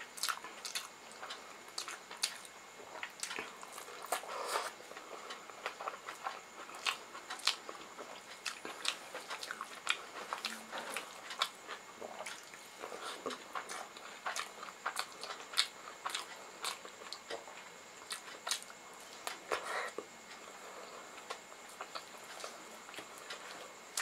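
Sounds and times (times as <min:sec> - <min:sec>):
wet chewing and mouth smacks: 0:00.2 - 0:20.5, 0:21.2 - 0:24.0.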